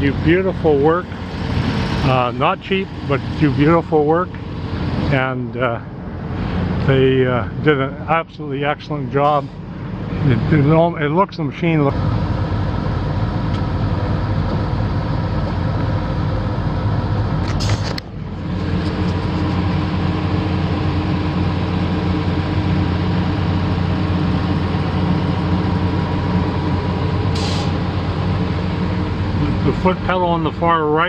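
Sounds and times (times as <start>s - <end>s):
excavator diesel engine idling: 0.0s - 31.0s.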